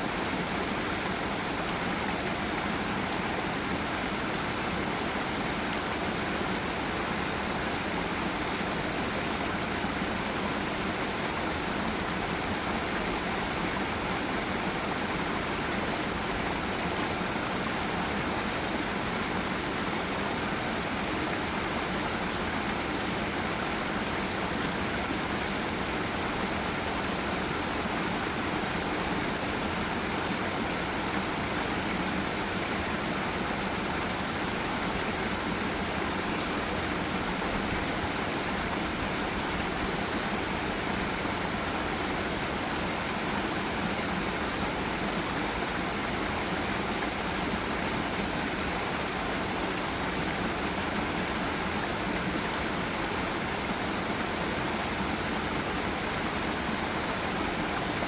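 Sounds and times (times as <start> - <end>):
waterfall water rushing: 0.0 - 58.0.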